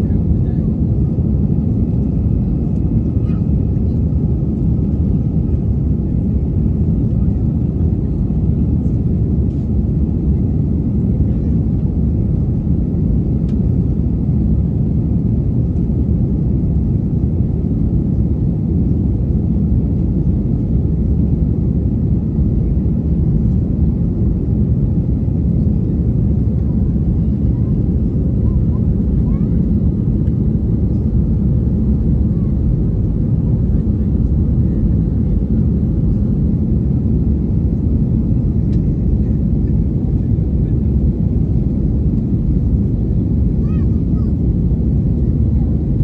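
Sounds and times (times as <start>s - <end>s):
airplane cabin engine rumble: 0.0s - 46.0s.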